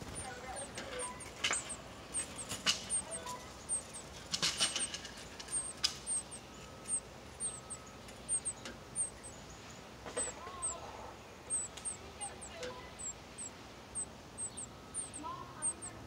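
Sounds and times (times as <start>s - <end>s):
nestlings begging peeps: 0.0s - 16.0s.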